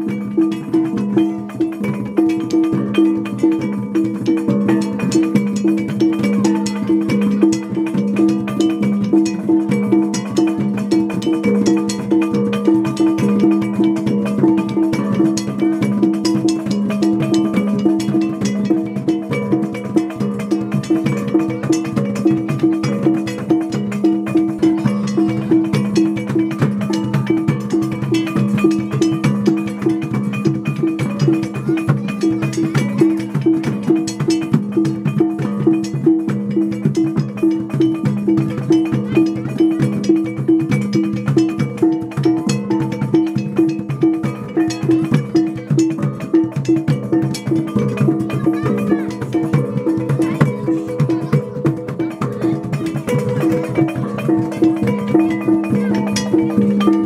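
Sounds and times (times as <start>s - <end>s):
drum and stick strikes: 0.0s - 57.0s
percussion music: 0.0s - 57.0s.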